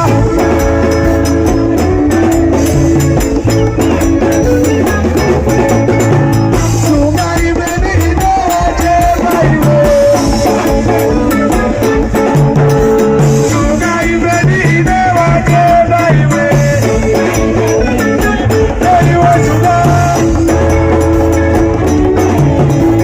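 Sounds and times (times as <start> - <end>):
live band music: 0.0 - 23.0
person singing: 0.0 - 23.0.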